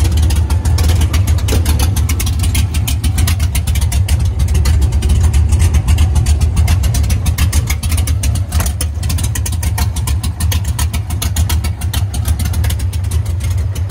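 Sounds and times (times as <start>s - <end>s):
truck engine idling: 0.0s - 13.9s
uneven exhaust pulsing: 0.0s - 13.9s.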